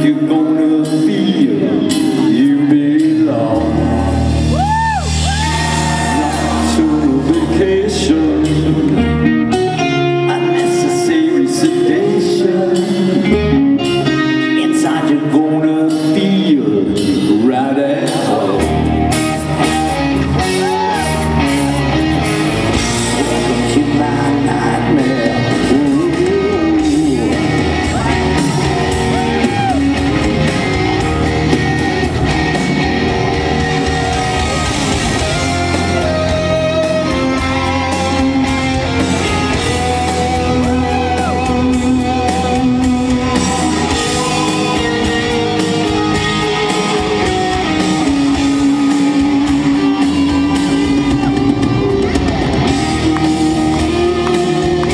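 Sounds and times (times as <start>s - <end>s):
man singing: 0.0s - 4.3s, 5.8s - 19.3s, 22.7s - 31.9s, 33.1s - 52.0s
rock band playing: 0.0s - 54.9s.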